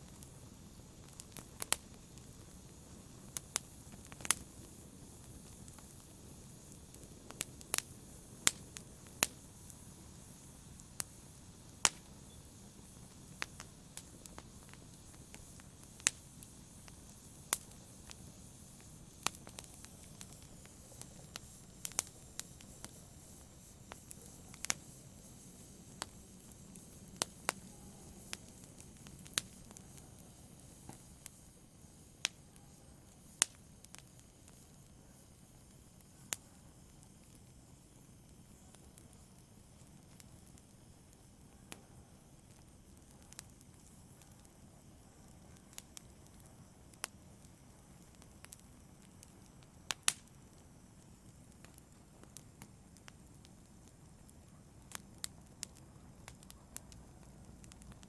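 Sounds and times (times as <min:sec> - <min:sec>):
fire crackles and pops: 0:00.0 - 0:58.0.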